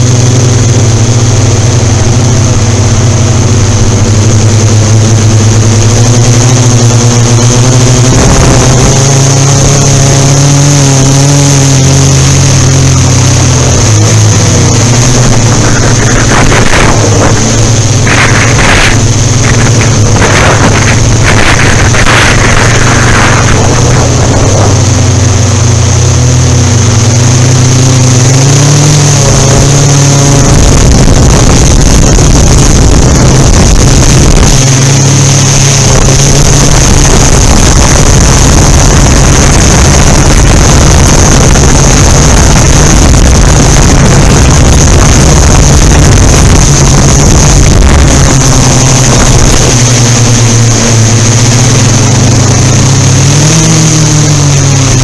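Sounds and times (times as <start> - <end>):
drone motors and propellers humming: 0.0 - 55.0
wind noise on microphone: 0.0 - 55.0.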